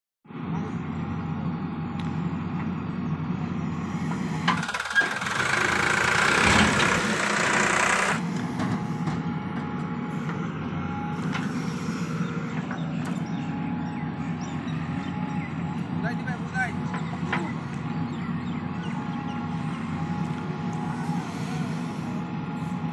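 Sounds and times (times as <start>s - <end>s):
backhoe diesel engine running: 0.3s - 22.9s
tractor engines idling: 0.4s - 22.9s.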